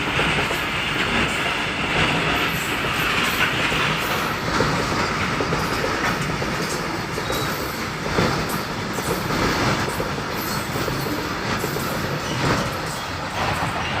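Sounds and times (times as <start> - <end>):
train rumbling along rails: 0.0 - 14.0
wheels clicking over rail joints: 0.0 - 14.0.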